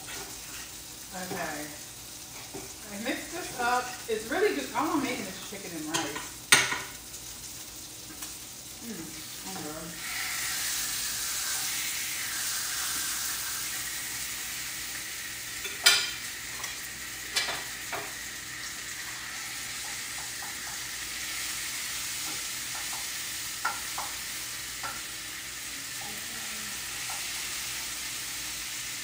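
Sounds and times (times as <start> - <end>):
chicken sizzling in a pan: 0.0 - 29.0.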